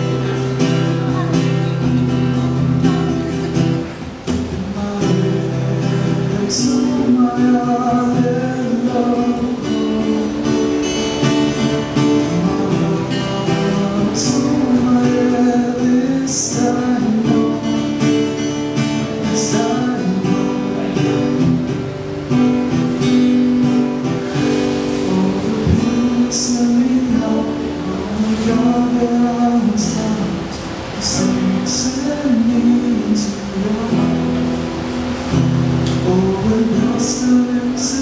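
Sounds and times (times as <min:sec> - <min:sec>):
man singing: 0:00.0 - 0:21.9, 0:24.3 - 0:34.7, 0:35.6 - 0:38.0
acoustic guitar strumming: 0:00.0 - 0:38.0.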